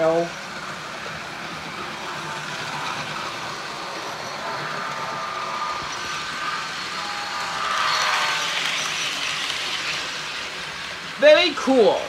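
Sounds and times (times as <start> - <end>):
model train rolling rumble: 0.0 - 12.0.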